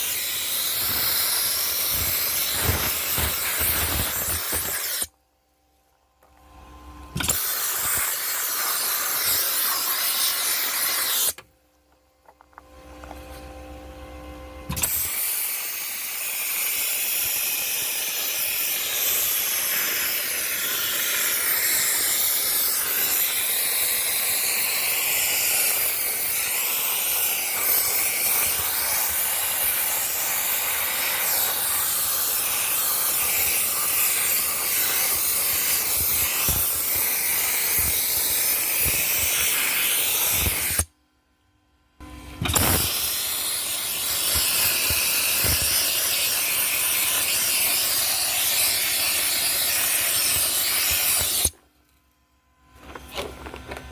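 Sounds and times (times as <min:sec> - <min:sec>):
dry-ice blasting gun hissing: 0:00.0 - 0:05.1, 0:07.2 - 0:11.4, 0:14.7 - 0:40.9, 0:42.4 - 0:51.6.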